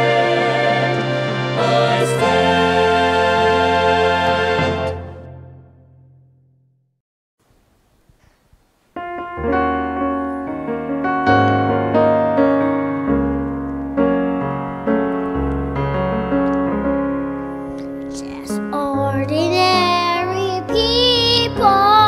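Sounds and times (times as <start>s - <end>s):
piano slow sustained chords: 0.0s - 6.3s, 9.0s - 22.0s.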